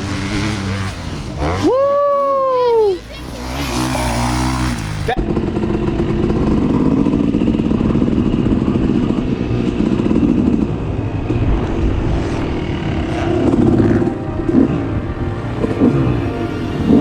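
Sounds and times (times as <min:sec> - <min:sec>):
dirt bike engine buzzing: 0:00.0 - 0:17.0.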